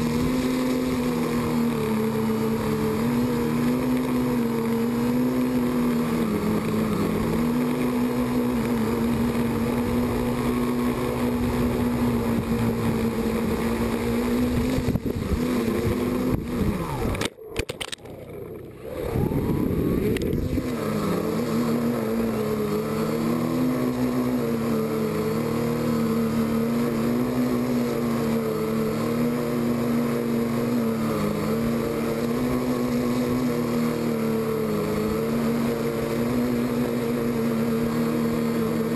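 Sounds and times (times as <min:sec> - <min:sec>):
drone motors humming: 0:00.0 - 0:38.9
motors whining: 0:00.0 - 0:38.9.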